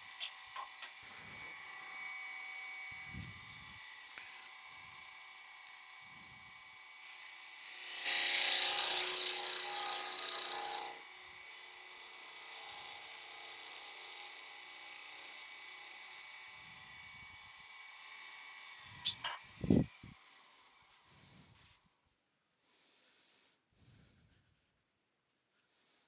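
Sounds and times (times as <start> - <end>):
small power tool running: 0.0 - 22.0
faint workshop hum: 0.0 - 26.0.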